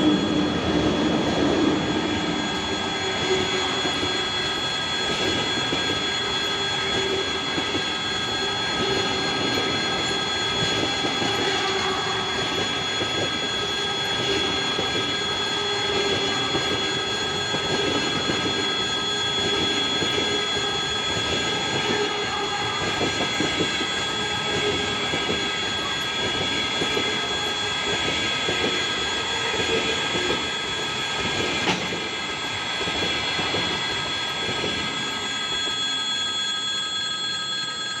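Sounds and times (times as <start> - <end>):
train wheels rumbling on track: 0.0 - 36.1
high-pitched ringing tones: 0.0 - 38.0.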